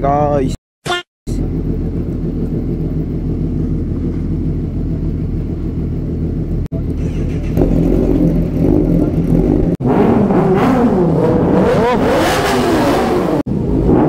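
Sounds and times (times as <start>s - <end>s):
motorcycle engines idling and revving: 1.3s - 14.0s.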